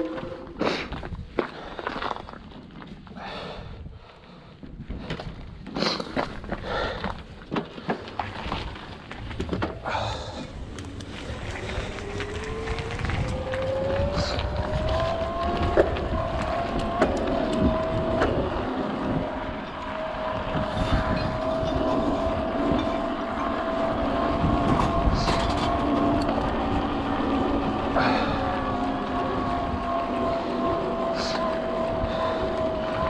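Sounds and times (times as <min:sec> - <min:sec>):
bike tyre hum: 0:00.0 - 0:33.0
wind rumble on microphone: 0:00.0 - 0:33.0.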